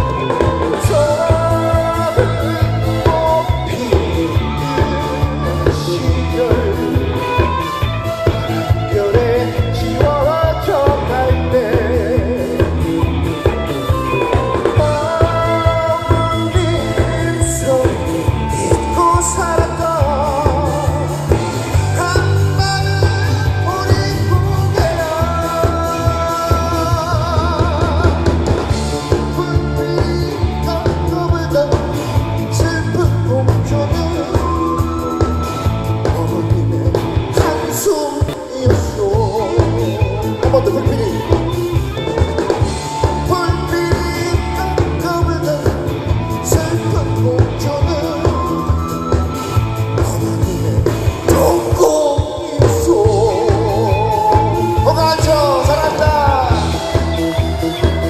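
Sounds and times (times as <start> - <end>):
man singing into microphone: 0.0 - 13.2, 14.1 - 41.8, 42.5 - 58.0
live rock band playing: 0.0 - 58.0.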